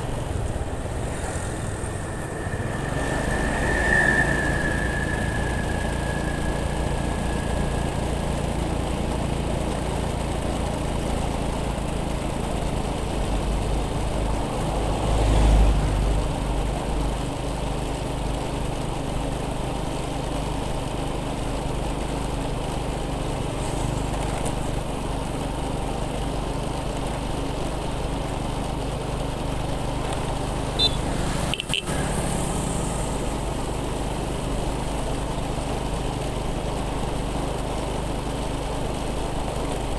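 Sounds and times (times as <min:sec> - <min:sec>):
motorcycle engine and road noise: 0:00.0 - 0:19.3, 0:21.9 - 0:39.9.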